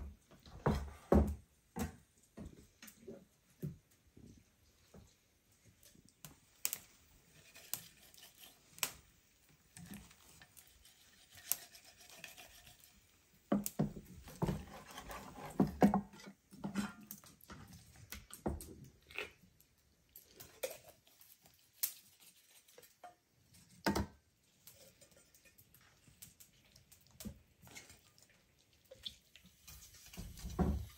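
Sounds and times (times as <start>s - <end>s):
cutting and handling raw meat: 5.0s - 30.9s.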